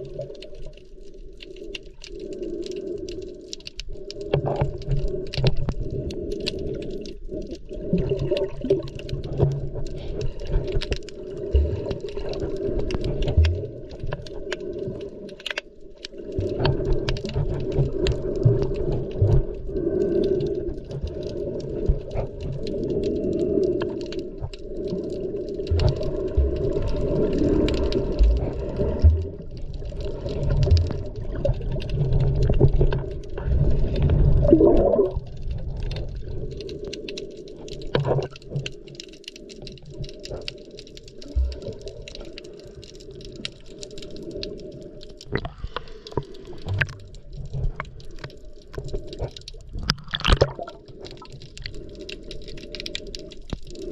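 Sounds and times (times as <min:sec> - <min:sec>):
muffled underwater water swirling: 0:00.0 - 0:53.9
faint clicks: 0:08.2 - 0:53.9.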